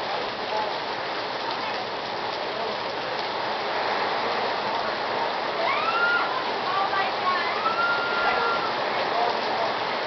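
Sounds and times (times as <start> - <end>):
torrential rain: 0.0 - 10.0.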